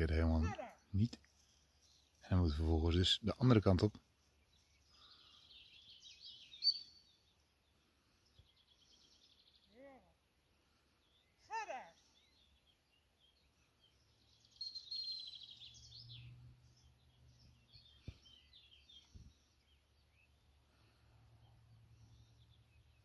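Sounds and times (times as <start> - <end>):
birds chirping and trilling: 0.0 - 23.0.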